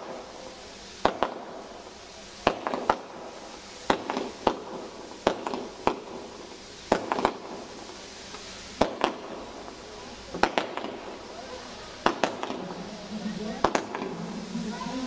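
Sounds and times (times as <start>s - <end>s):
fireworks bangs: 0.0s - 15.0s
fireworks hiss and crackle: 0.0s - 15.0s.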